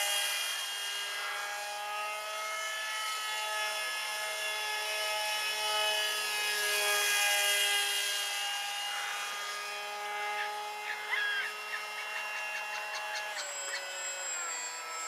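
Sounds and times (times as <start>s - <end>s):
model jet motor whining: 0.0s - 15.0s.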